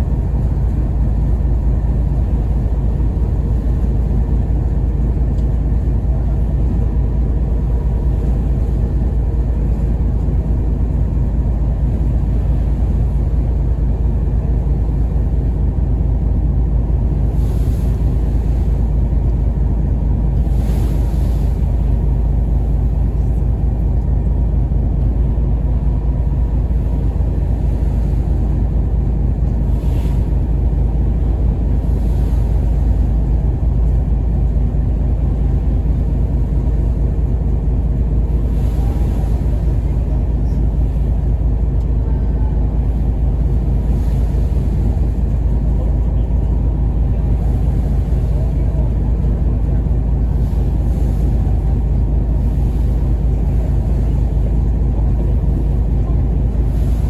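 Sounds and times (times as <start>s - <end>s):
ferry engine rumbling: 0.0s - 57.0s.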